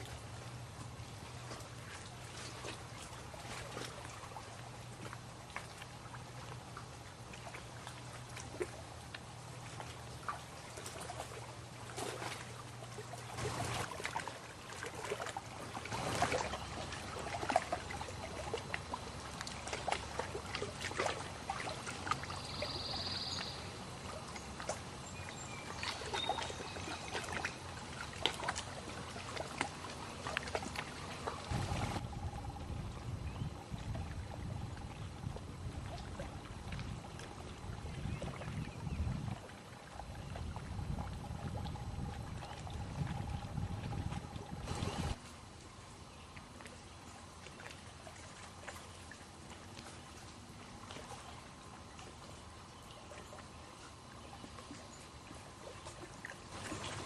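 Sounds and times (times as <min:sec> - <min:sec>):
water lapping against shore: 0:00.0 - 0:57.0.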